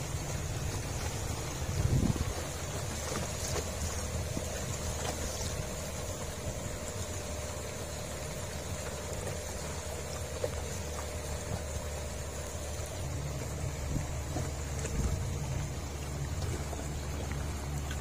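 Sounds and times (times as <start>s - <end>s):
outboard motor running: 0.0s - 18.0s
water splashing on choppy sea: 0.0s - 18.0s
wind: 0.0s - 18.0s.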